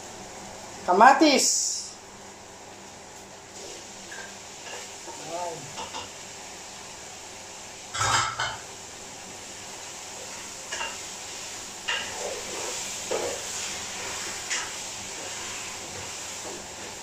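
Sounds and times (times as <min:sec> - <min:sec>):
frying sizzle: 0:00.0 - 0:17.0.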